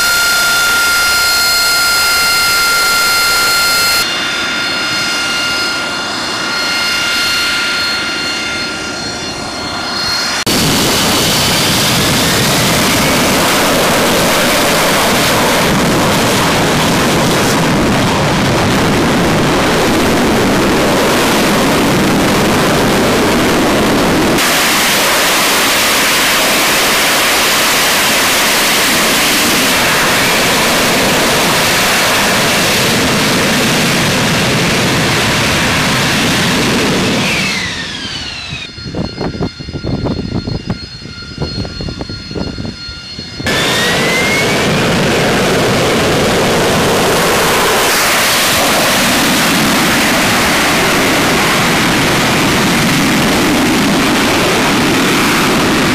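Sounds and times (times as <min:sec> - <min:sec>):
jet engine roar: 0:00.0 - 0:55.9
jet engine whine: 0:00.0 - 0:55.9.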